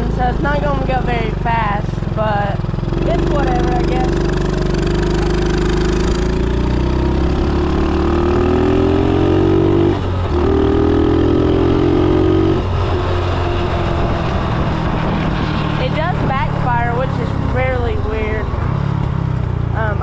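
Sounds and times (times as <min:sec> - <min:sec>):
vehicle engine accelerating: 0:00.0 - 0:20.0.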